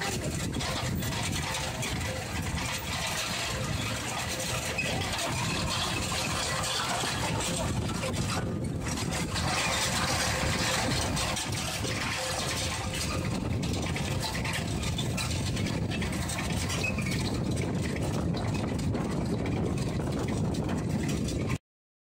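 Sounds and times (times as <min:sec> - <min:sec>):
tractor engine running: 0:00.0 - 0:21.6.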